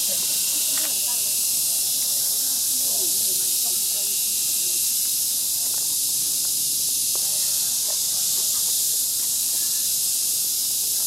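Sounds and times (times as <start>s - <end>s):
cicadas singing in chorus: 0.0s - 11.0s.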